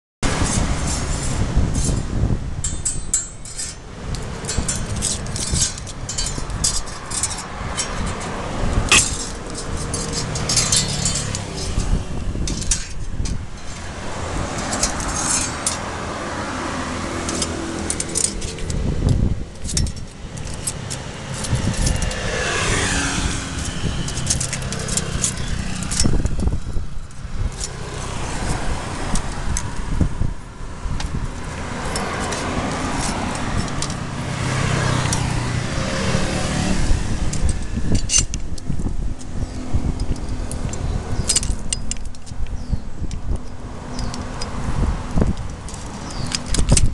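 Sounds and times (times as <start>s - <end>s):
cars passing: 0.2s - 46.9s
metal strap clinking and rattling: 0.4s - 46.9s.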